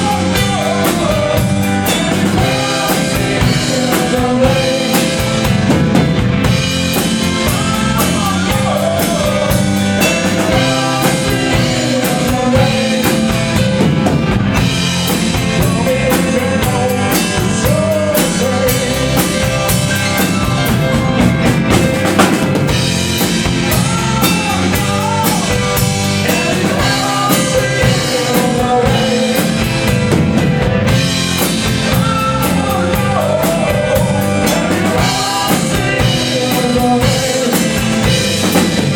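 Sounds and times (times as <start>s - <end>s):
bending lead melody: 0.0s - 38.9s
drum kit beat: 0.0s - 38.9s
instrumental rock music: 0.0s - 38.9s.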